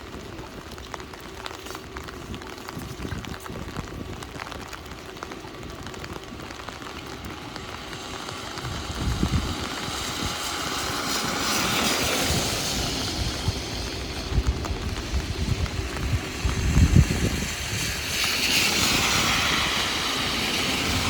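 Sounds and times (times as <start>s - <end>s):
rain pattering on an umbrella: 0.0s - 21.0s
tyre hiss on wet street: 0.0s - 21.0s.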